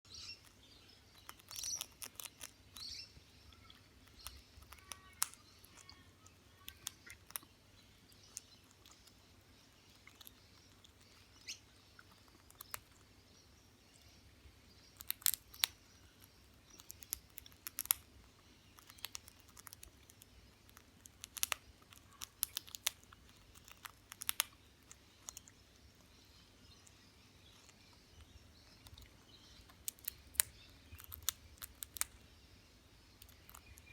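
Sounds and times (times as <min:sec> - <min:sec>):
parrot chirping softly: 0:00.0 - 0:33.9.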